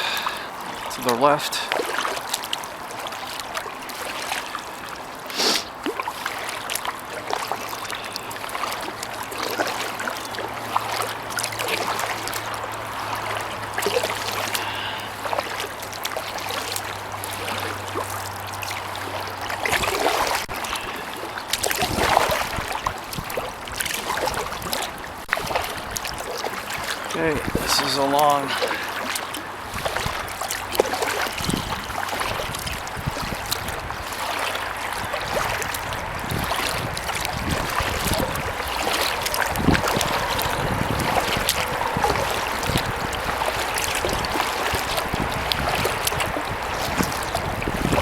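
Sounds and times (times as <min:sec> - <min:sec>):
paddle splashing in water: 0:00.0 - 0:48.0
water dripping: 0:05.8 - 0:48.0.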